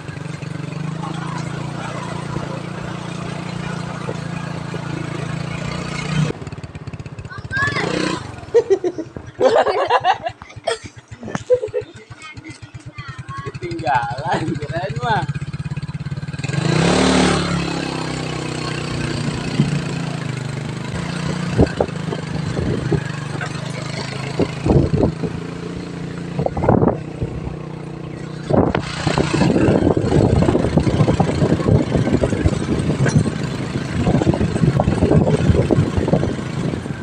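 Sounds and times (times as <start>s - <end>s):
motorcycle engine running: 0.0s - 37.0s
rough rumbling noise: 0.0s - 37.0s.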